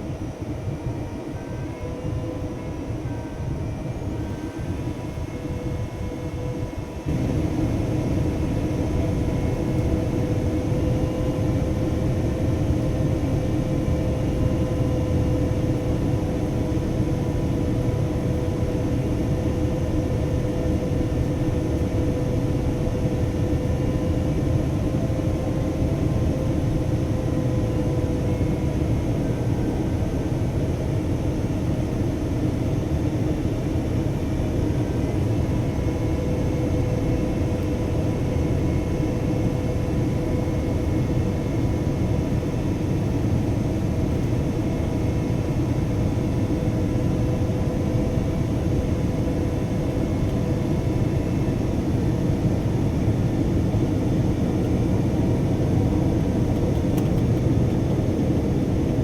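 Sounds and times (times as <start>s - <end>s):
jet engines and airflow rumble: 0.0s - 59.0s.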